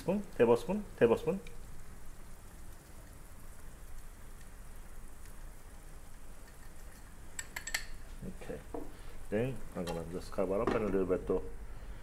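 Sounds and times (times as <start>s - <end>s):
liquid simmering in a wok: 0.0s - 10.4s, 11.4s - 12.0s.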